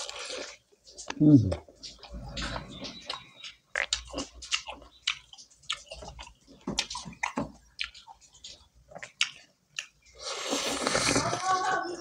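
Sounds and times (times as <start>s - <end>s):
open-mouth chewing clicks: 0.0s - 11.2s.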